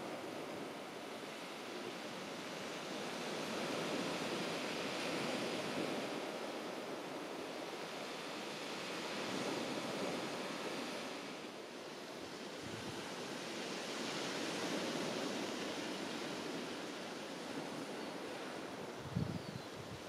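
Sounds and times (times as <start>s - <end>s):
waves washing onto beach: 0.0s - 20.0s
wind: 0.0s - 20.0s.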